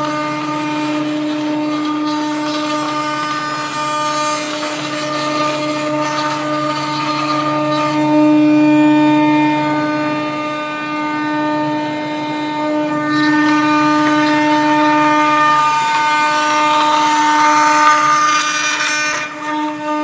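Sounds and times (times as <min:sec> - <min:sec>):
router bit cutting hiss: 0:00.0 - 0:20.0
router spindle whining: 0:00.0 - 0:20.0.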